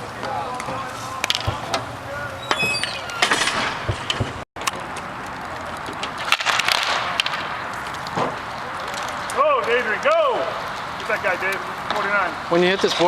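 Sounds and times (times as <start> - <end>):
hockey sticks and puck clacking: 0.1 - 13.0.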